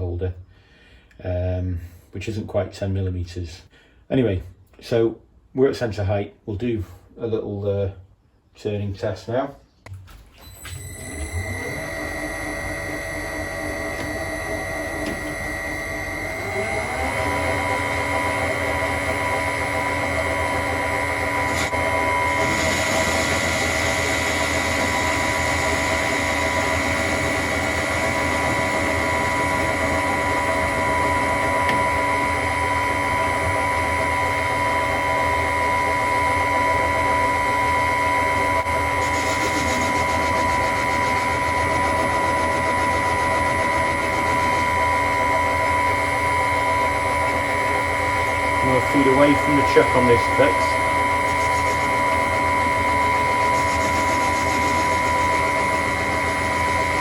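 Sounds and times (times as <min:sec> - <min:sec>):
lathe motor humming and whining: 0:10.5 - 0:57.0.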